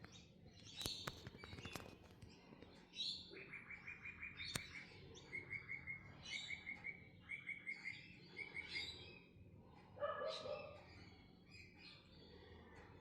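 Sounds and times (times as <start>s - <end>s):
small songbird chirping: 0.0s - 13.0s.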